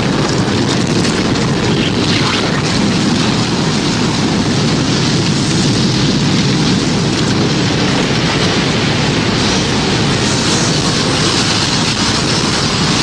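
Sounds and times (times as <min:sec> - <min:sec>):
rumbling storm wind: 0:00.0 - 0:13.0.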